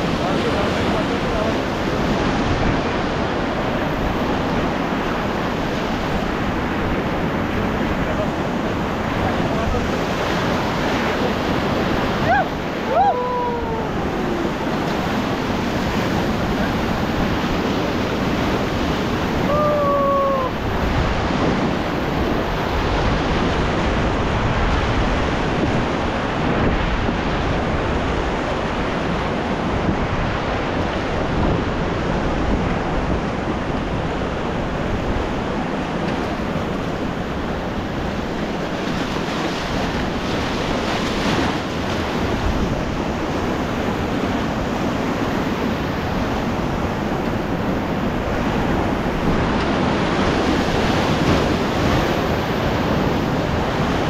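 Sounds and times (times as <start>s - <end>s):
whitewater river rapid roaring: 0.0s - 54.0s
wind on microphone: 0.0s - 54.0s.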